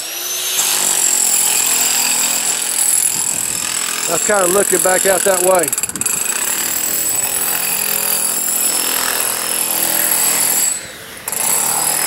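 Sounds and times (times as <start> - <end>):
electric chipping hammer on concrete: 0.0 - 12.0.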